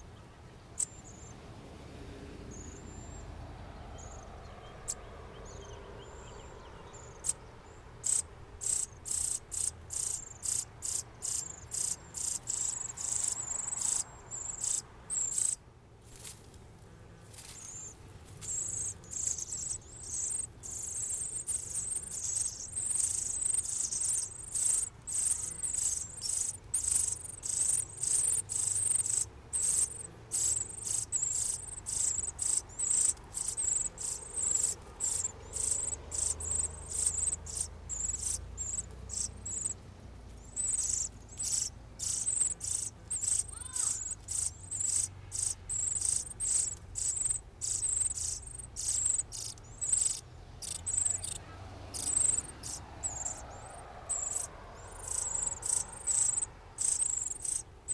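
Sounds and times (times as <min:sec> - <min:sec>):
nestlings peeping: 0:00.0 - 0:01.4, 0:02.5 - 0:03.3, 0:03.9 - 0:15.6, 0:17.3 - 0:57.9.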